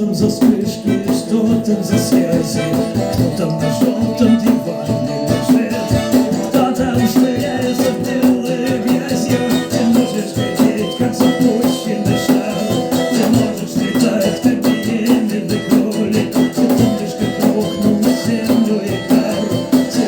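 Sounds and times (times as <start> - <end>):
drums: 0.0 - 20.0
guitar: 0.0 - 20.0
shaker percussion: 0.4 - 20.0.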